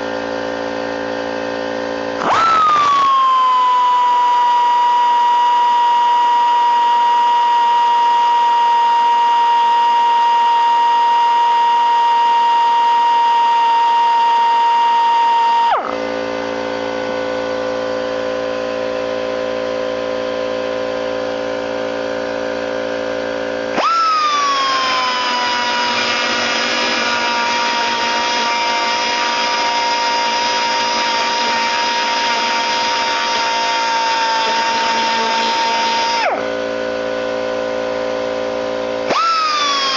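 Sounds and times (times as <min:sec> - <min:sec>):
air die grinder whining: 0:00.0 - 0:16.7, 0:23.6 - 0:39.9.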